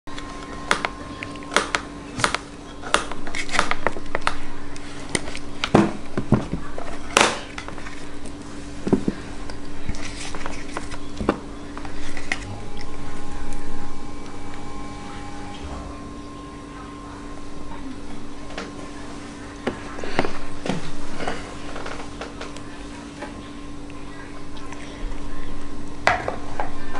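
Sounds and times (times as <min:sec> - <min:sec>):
steady low hum: 0:00.1 - 0:26.9.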